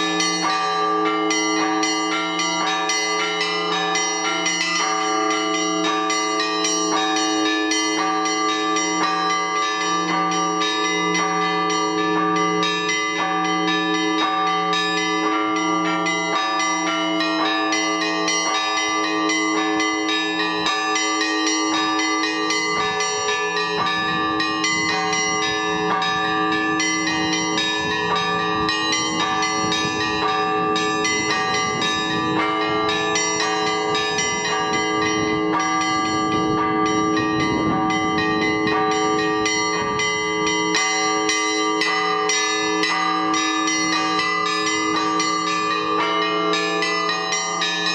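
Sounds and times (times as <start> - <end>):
deep bells ringing: 0.0 - 47.9
small high bells ringing: 0.0 - 47.9.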